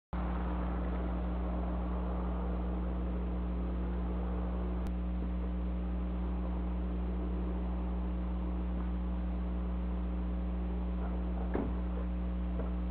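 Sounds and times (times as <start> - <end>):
constant hiss: 0.2 - 12.9
steady low hum: 0.2 - 12.9.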